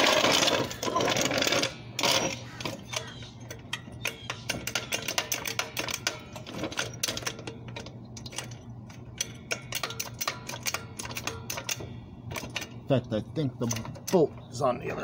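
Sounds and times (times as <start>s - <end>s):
rapid mechanical clicking and rattling: 0.0s - 15.0s
steady low hum: 0.0s - 15.0s.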